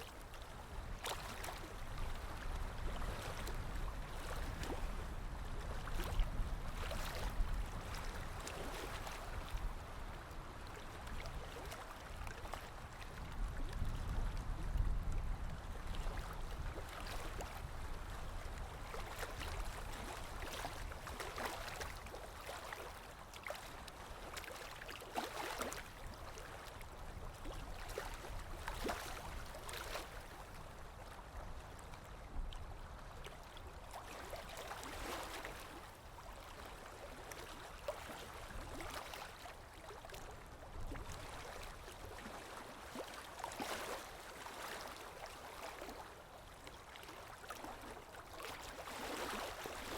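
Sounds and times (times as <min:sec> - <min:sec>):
small waves lapping: 0:00.0 - 0:49.9.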